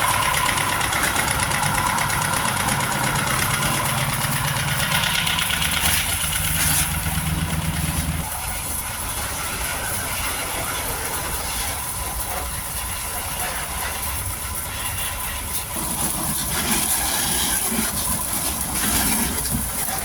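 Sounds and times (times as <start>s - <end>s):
machine running: 0.0s - 20.0s.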